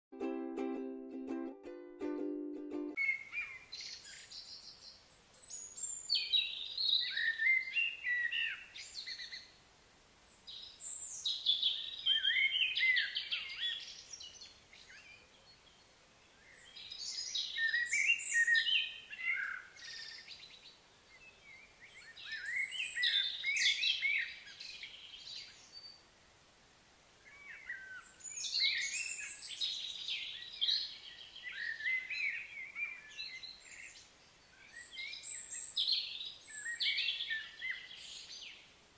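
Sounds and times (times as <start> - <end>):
outdoor background: 0.1 - 38.9
songbird chirps and trills: 0.2 - 9.6, 10.2 - 26.2, 27.2 - 38.9.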